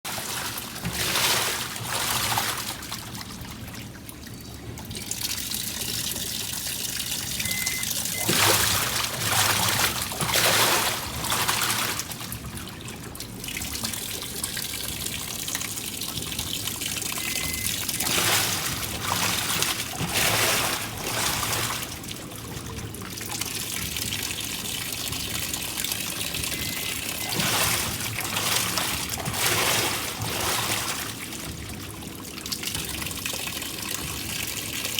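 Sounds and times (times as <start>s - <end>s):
water splashing in washing machine: 0.0s - 34.9s.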